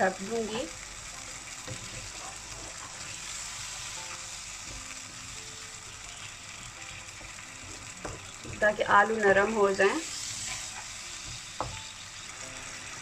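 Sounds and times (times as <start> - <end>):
potatoes sizzling in a wok: 0.0 - 13.0.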